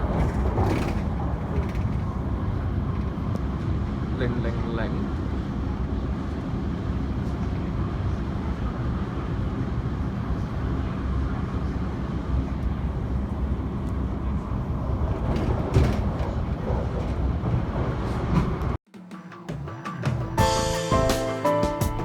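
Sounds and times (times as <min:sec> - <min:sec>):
electric train rumbling: 0:00.0 - 0:18.8, 0:19.7 - 0:22.0.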